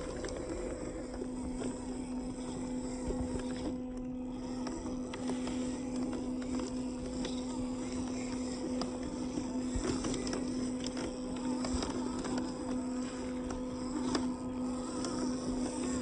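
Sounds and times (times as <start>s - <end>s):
small electric motor humming: 0.0s - 16.0s.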